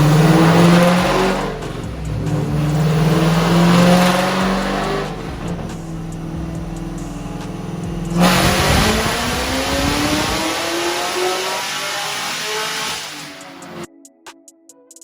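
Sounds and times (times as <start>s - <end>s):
car engine accelerating: 0.0s - 13.8s.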